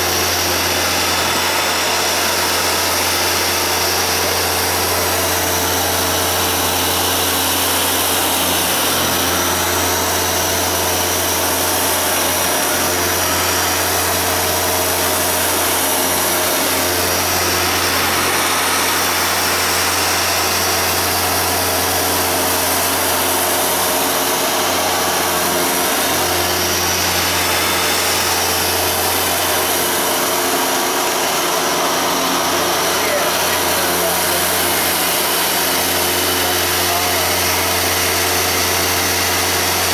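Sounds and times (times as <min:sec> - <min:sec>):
carpet washer running: 0:00.0 - 0:39.9.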